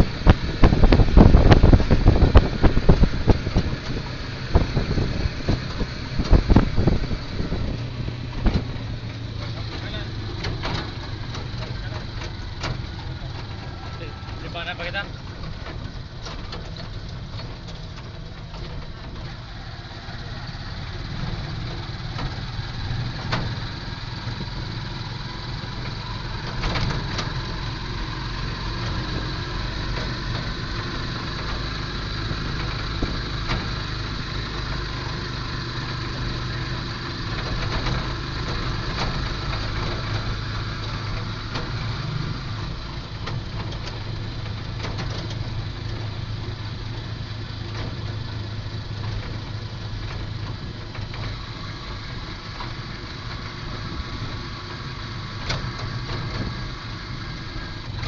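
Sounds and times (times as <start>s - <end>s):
short knocks and rattles: 0.0s - 19.5s, 20.2s - 57.0s
low engine hum: 0.0s - 58.0s
road and wind noise: 0.0s - 58.0s.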